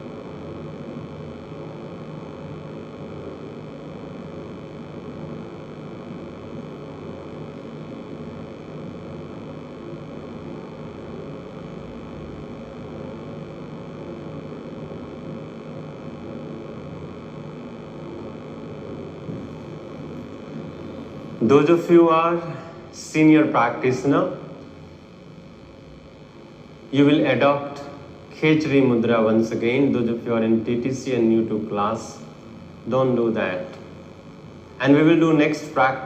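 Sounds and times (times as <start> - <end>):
room noise hum and hiss: 0.0 - 36.0.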